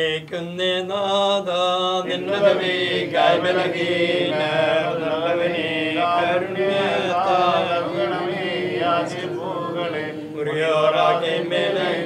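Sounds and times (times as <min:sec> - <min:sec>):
voices chanting a slow prayer: 0:00.0 - 0:12.0.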